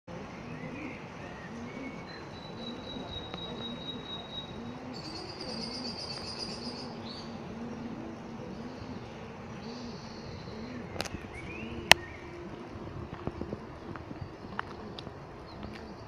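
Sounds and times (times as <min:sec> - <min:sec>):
background hiss: 0:00.1 - 0:16.0
low bird call: 0:00.4 - 0:16.0.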